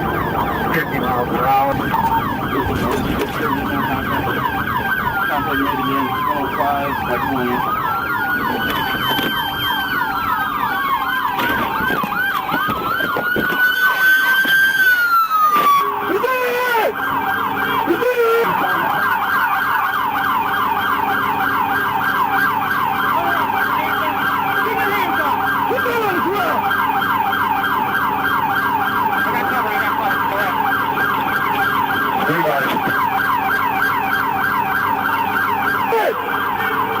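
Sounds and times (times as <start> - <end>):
police siren yelping: 0.0 - 37.0.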